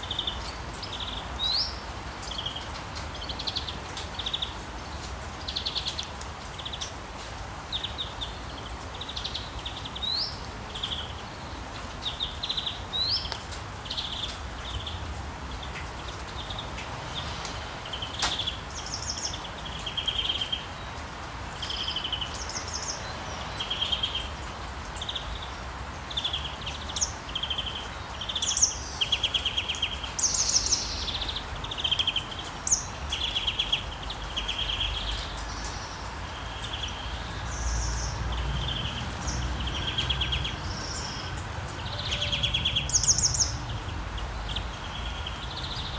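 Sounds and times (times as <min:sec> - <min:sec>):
birds chirping: 0:07.7 - 0:45.9.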